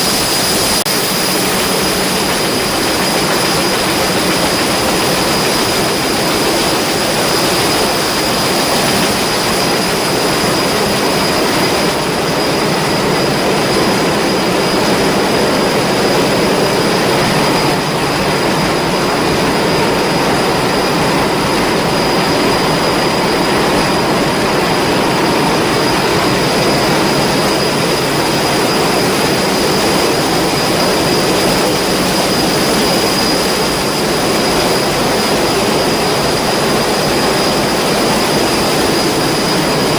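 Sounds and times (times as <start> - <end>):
high steady whine: 0.0 - 39.9
ship diesel engine drone: 0.0 - 39.9.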